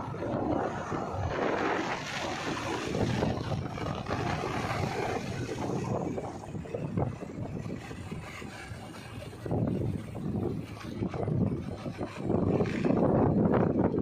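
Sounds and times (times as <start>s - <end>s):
tyres rolling on road: 0.0s - 14.0s
wind buffeting microphone: 0.0s - 14.0s.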